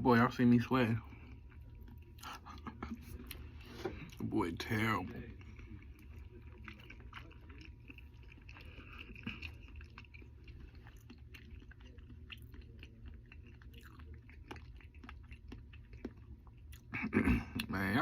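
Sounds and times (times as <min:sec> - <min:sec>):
person chewing fries: 0:00.6 - 0:18.0.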